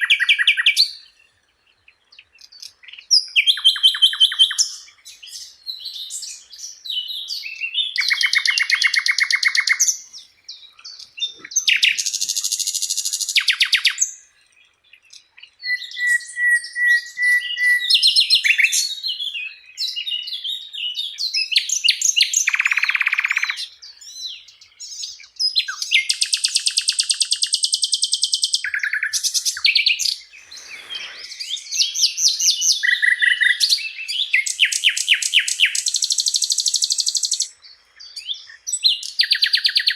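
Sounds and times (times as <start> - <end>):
flycatcher singing trills and chirps: 0.0 - 39.9.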